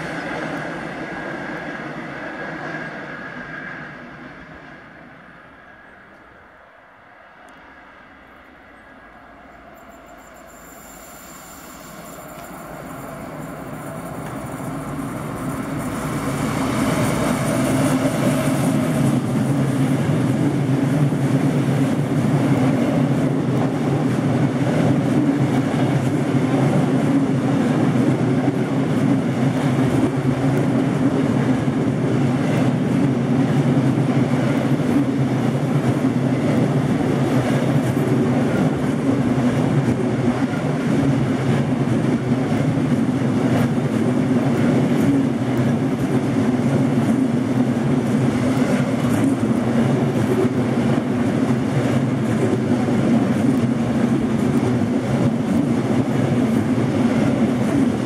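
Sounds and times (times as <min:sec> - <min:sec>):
freight wagons rumbling on rails: 0:09.5 - 0:58.0.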